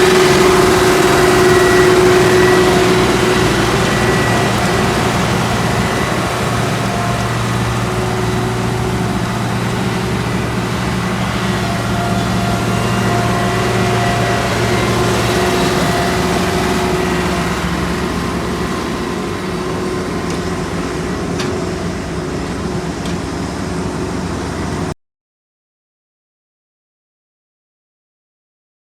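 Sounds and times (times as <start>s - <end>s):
heavy machinery diesel engines: 0.0s - 25.0s
low drone: 0.0s - 25.0s.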